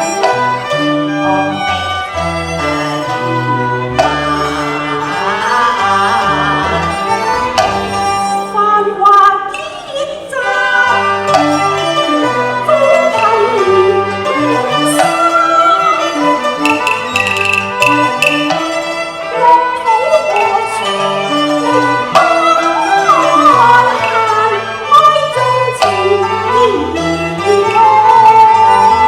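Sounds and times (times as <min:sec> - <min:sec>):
violin melody: 0:00.0 - 0:29.0.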